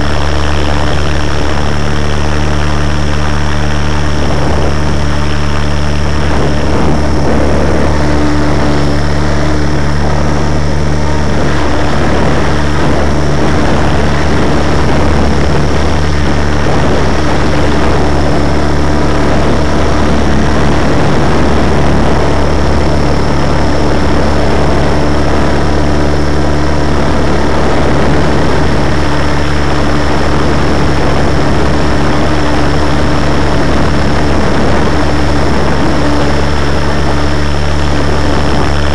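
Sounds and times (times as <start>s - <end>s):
model helicopter rotor humming: 0.0s - 38.9s.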